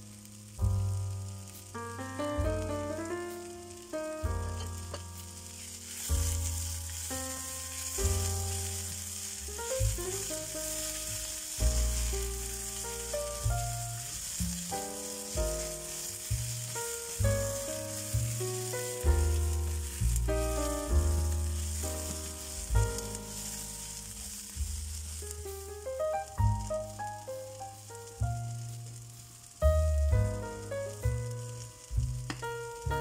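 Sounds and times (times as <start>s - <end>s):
background music with bass line: 0.0s - 33.0s
onions sizzling in a frying pan: 0.0s - 33.0s.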